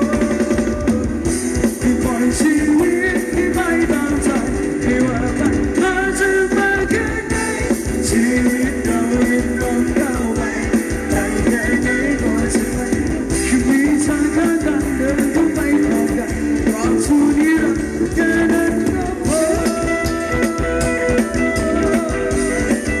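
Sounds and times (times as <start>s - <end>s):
live band dance music: 0.0s - 23.0s
person singing: 0.0s - 23.0s.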